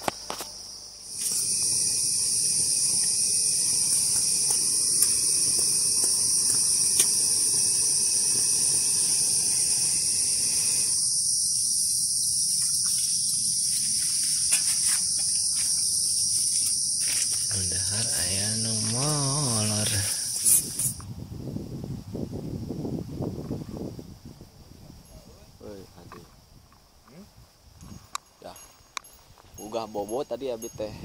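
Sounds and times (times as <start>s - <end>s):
high-pitched insects chorus: 0.0s - 31.0s.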